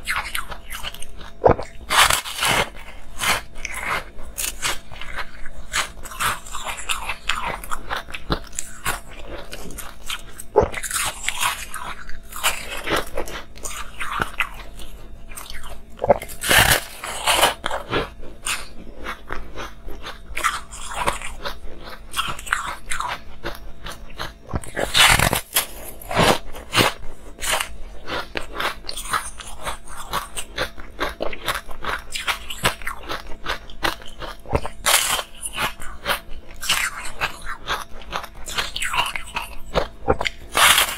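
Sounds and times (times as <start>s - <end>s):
crunching frozen ice: 0.0s - 40.9s.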